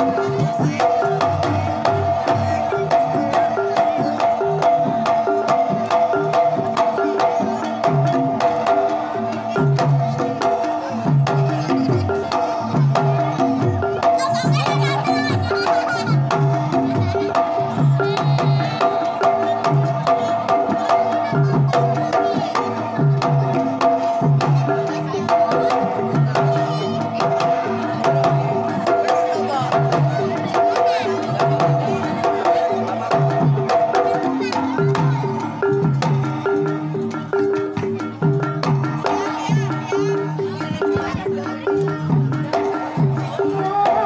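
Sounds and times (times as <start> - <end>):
struck metallophone notes: 0.0 - 44.0.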